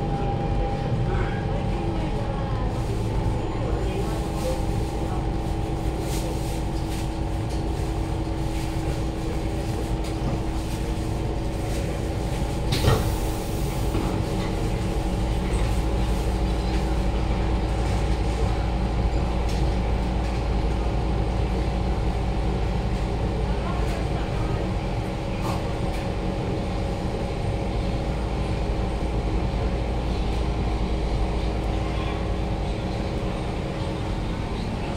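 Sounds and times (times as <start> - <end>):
train equipment hum: 0.0 - 34.9.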